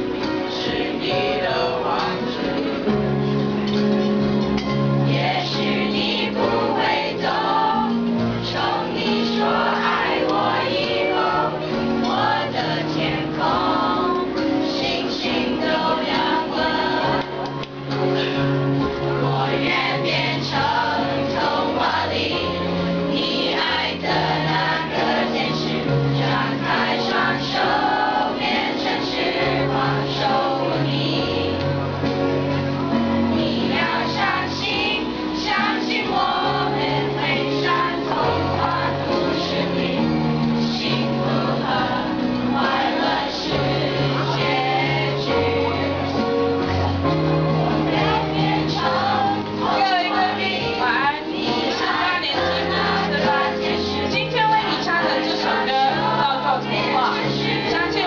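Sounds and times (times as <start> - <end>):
instrumental accompaniment: 0.0 - 58.0
students singing in chorus: 0.0 - 58.0.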